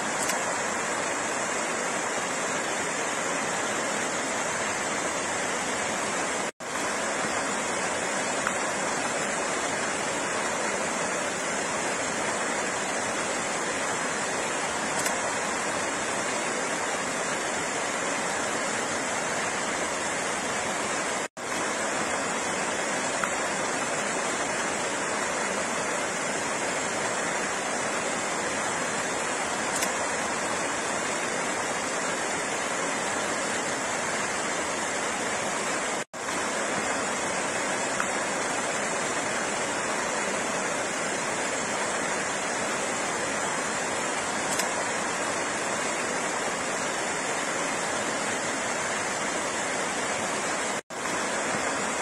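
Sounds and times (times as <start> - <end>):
flowing water rushing: 0.0 - 52.0.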